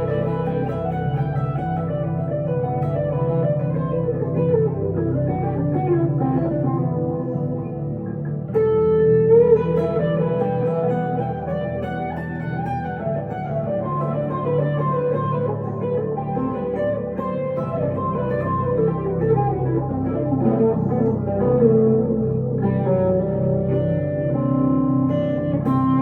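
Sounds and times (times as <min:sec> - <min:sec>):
electric guitar lead line: 0:00.0 - 0:26.0.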